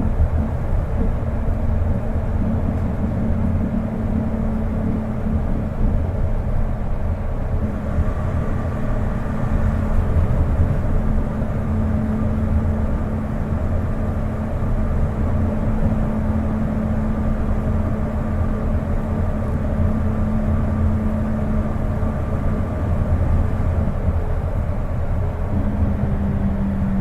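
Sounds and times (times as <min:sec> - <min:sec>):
train interior rumble and hum: 0:00.0 - 0:27.0.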